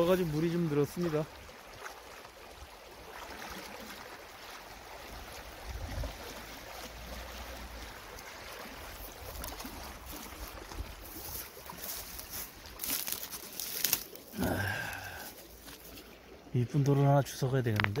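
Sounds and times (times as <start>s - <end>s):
stream rippling over stones: 0.0s - 18.0s.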